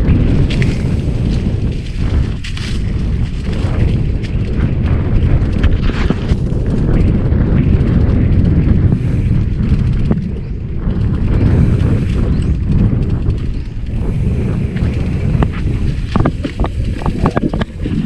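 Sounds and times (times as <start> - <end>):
sharp knocks from rough trail: 0.0 - 13.7, 14.7 - 18.0
motorcycle engine rumble: 0.0 - 18.0
wind buffeting microphone: 0.0 - 18.0.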